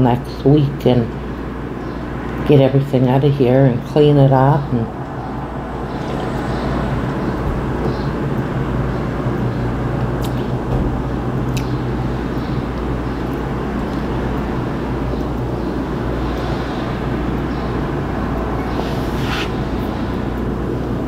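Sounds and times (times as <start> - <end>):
steady rushing noise with hum: 3.4 - 21.0.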